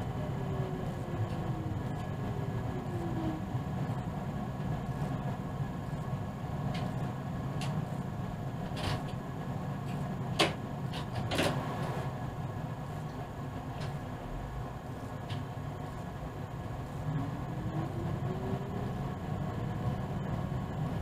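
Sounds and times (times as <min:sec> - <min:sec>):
train running low rumble: 0:00.0 - 0:21.0.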